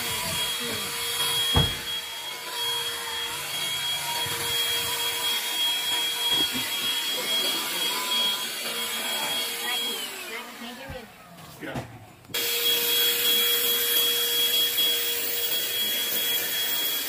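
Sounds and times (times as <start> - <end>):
car vacuum whining: 0.0 - 17.0.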